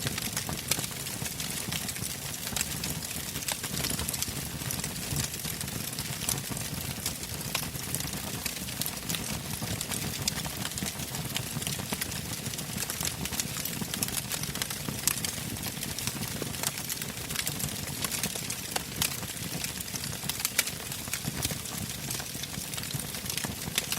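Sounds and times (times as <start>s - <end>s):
bonfire crackling and popping: 0.0s - 23.9s.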